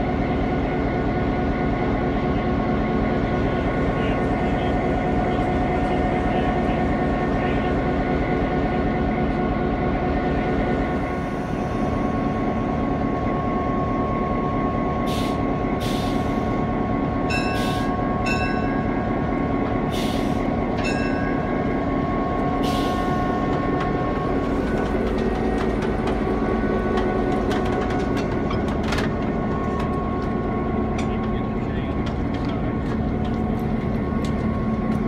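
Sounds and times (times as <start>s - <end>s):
diesel locomotive idling: 0.0s - 35.0s.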